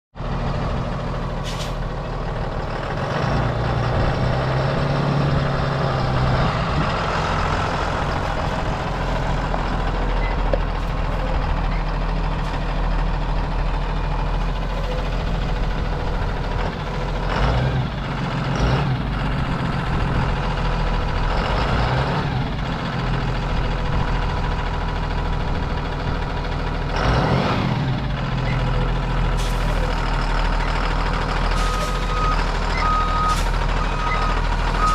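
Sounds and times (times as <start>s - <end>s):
bus engine running: 0.2s - 34.9s.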